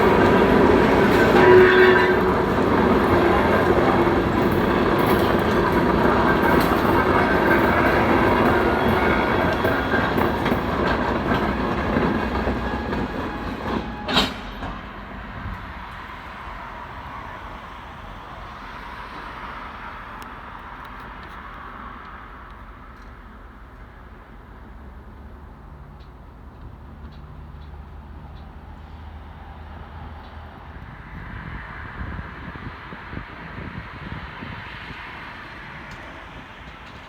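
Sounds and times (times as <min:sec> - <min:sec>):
freight train cars rolling: 0:00.0 - 0:31.4, 0:32.7 - 0:37.0.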